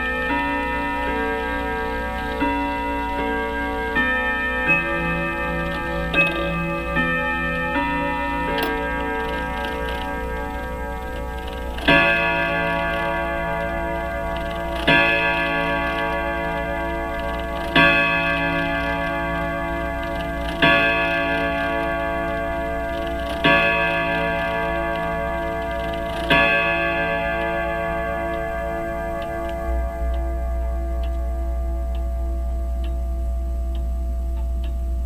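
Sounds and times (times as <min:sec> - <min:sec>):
clock striking on gong: 0:00.0 - 0:35.0.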